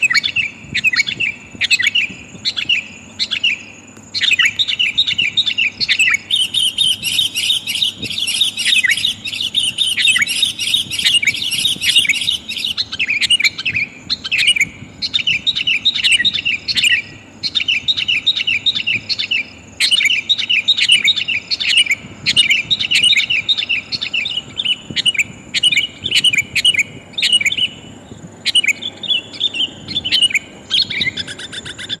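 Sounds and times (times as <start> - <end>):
bird chattering high chirps: 0.0 - 32.0.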